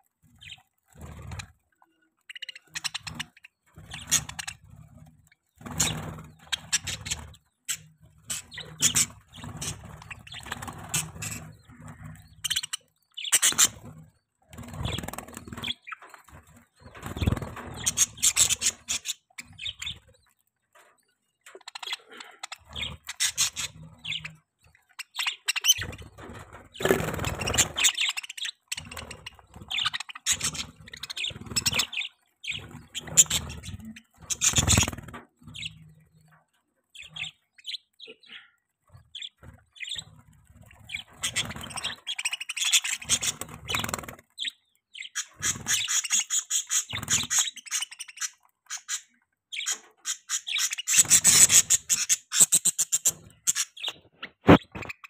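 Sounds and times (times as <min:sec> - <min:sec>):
wings fluttering: 0:00.2 - 0:38.0, 0:38.8 - 0:44.5, 0:45.1 - 0:55.0
budgerigars chirping: 0:00.4 - 0:01.5, 0:02.2 - 0:04.7, 0:05.6 - 0:14.0, 0:14.6 - 0:20.1, 0:21.5 - 0:36.4, 0:37.0 - 0:55.0.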